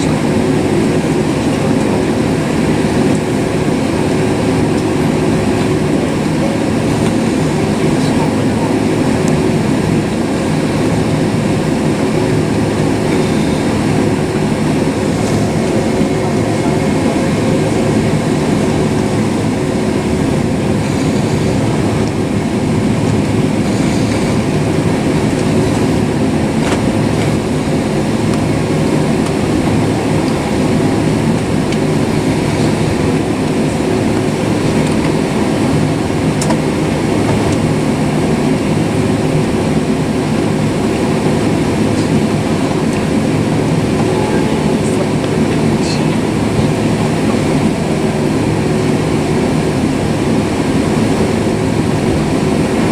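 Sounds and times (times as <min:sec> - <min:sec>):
air-conditioning hum: 0:00.0 - 0:52.9
airliner engines at low power: 0:00.0 - 0:52.9.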